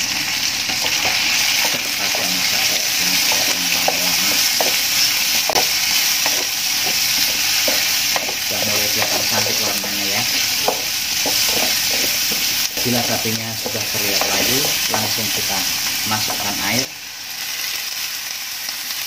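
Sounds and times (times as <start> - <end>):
food sizzling in hot oil: 0.0 - 19.0
spatula scraping a wok: 0.6 - 16.5.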